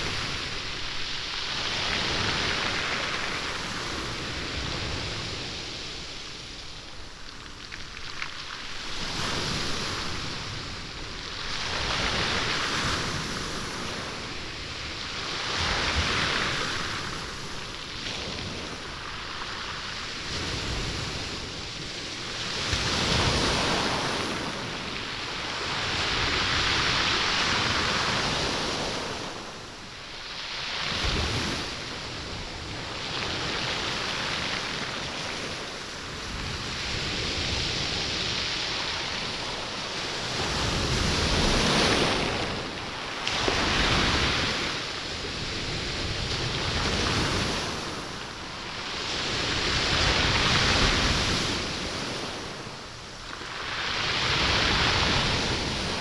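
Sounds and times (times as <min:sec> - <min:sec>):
sea waves on stone beach: 0:00.0 - 0:56.0.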